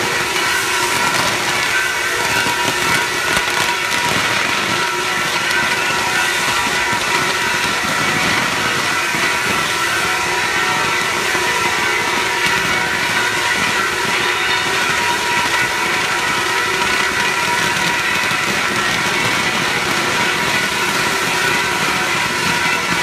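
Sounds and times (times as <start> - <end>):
fireworks rushing hiss: 0.0 - 23.0.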